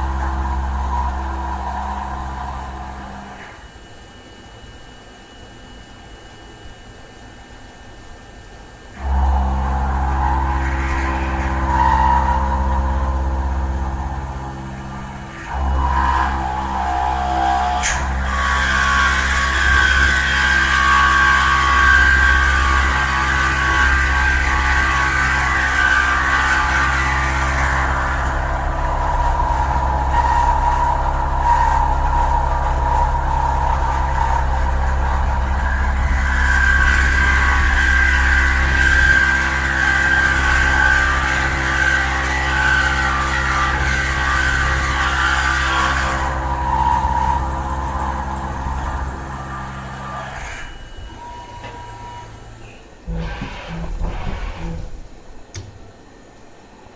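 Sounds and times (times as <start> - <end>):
metal cutting whine: 0.0 - 56.9
mill spindle hum: 0.0 - 56.9.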